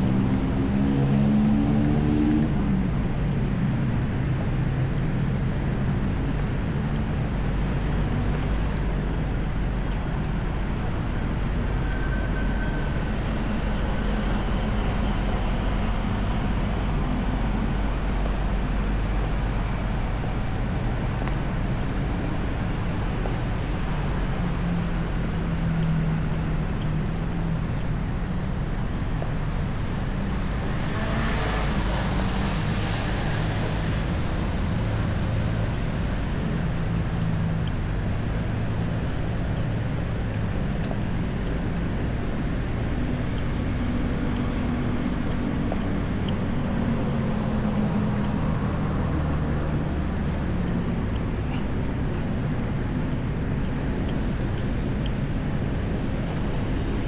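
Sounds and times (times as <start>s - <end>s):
vehicle engines running: 0.0s - 57.0s.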